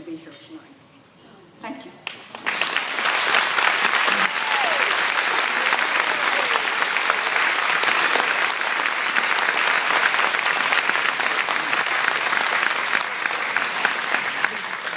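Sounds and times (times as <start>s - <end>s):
audience applauding: 2.1s - 14.9s.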